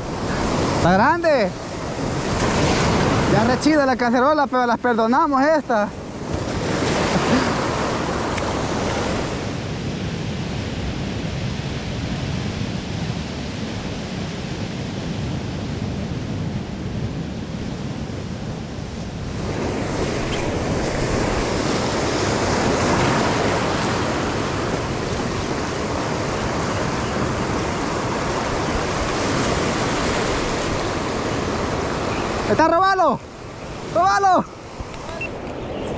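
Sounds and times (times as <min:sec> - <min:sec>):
surf washing over rocks: 0:00.0 - 0:35.9.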